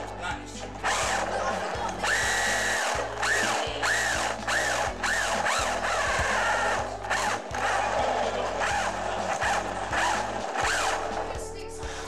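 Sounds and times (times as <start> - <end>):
toy car electric motor whining: 0.6 - 12.0.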